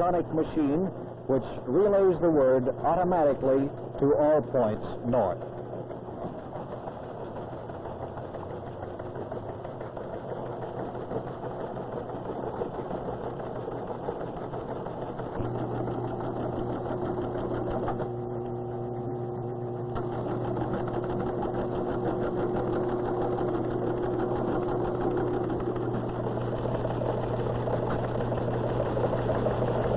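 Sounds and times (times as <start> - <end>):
teletype machines clattering: 0.0 - 18.2, 19.9 - 29.9
steady motor hum: 0.0 - 29.9.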